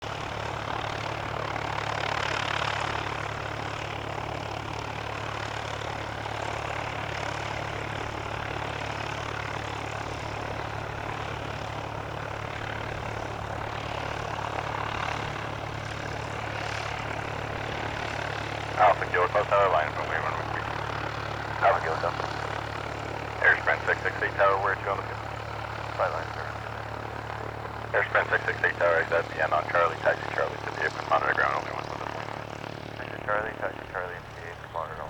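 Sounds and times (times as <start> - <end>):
jet engines running: 0.0 - 35.0.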